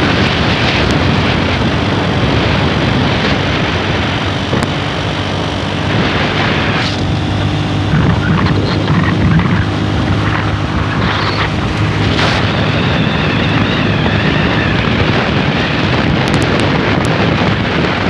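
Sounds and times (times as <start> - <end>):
low engine hum: 0.0 - 18.0
wind and road noise: 0.0 - 18.0.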